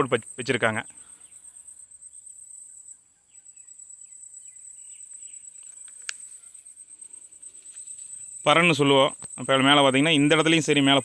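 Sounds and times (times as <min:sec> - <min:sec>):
faint bird chirps: 0:00.0 - 0:11.0
insects chirring: 0:00.0 - 0:11.0.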